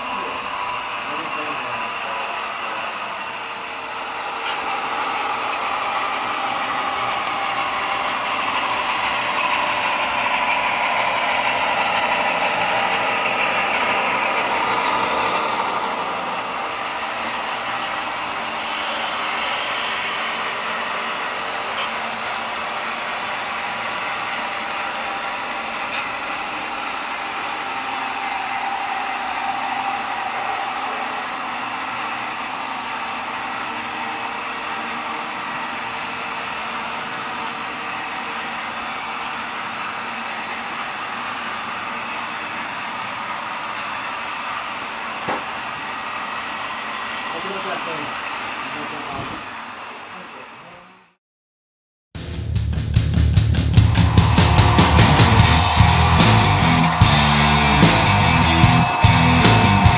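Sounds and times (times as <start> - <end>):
model locomotive engine sound: 0.0 - 51.2, 53.0 - 59.9.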